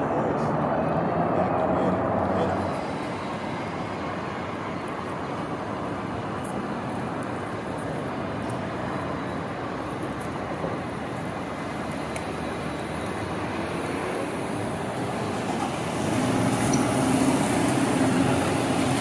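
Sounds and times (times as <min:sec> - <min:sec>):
city street traffic hum: 0:00.0 - 0:19.0.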